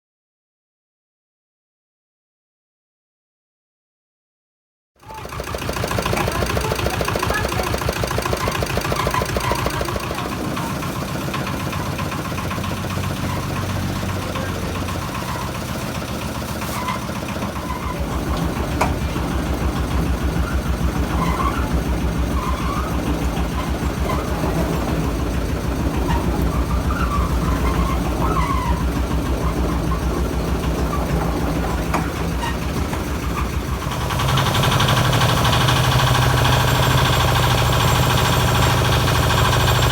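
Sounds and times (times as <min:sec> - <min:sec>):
washing machine pulsing: 0:05.0 - 0:39.9.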